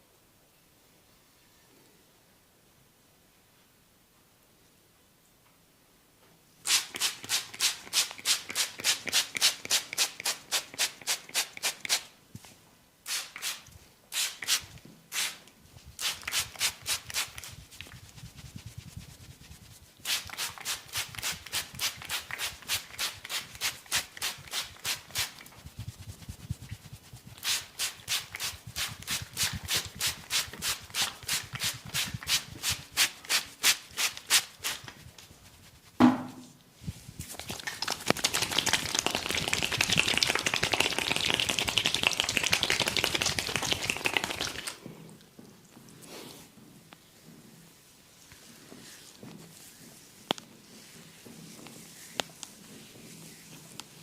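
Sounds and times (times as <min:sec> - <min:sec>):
hands rubbing a head: 0:06.7 - 0:44.8, 0:47.1 - 0:54.0.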